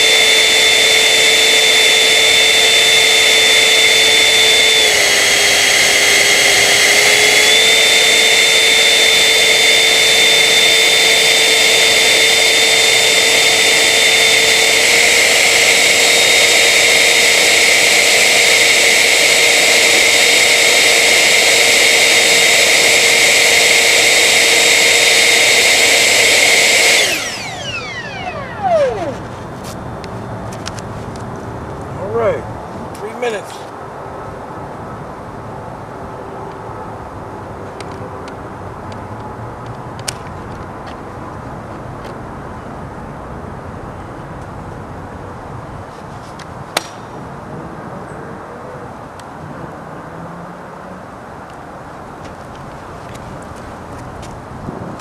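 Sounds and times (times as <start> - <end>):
ducted fan jet whine: 0.0 - 48.2.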